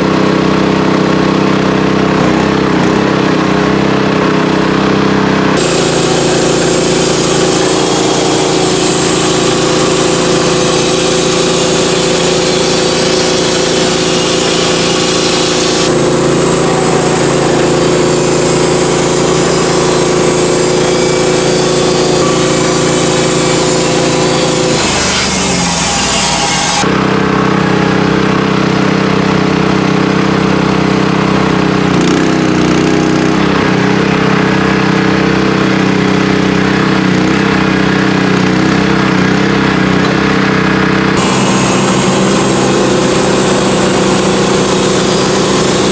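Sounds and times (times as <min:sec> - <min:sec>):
sawmill engine hum: 0:00.0 - 0:45.9
saw cutting through log: 0:05.5 - 0:28.4, 0:31.0 - 0:45.9.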